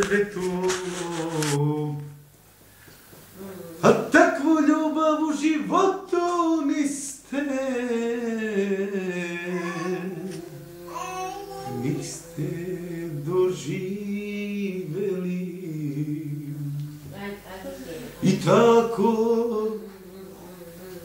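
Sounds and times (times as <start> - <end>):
person singing folk song: 0.0 - 2.2, 3.4 - 17.3, 18.1 - 21.0.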